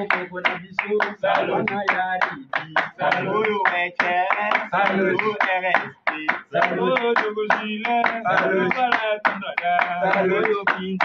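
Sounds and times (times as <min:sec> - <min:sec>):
man singing or chanting: 0:00.0 - 0:11.0
people clapping in rhythm: 0:00.0 - 0:11.0.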